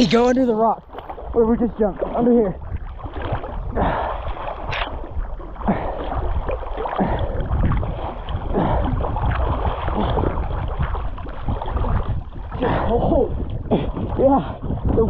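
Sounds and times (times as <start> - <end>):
water sloshing and splashing: 0.0 - 15.0
wind buffeting microphone: 0.0 - 15.0
swimming arm strokes in water: 0.9 - 15.0.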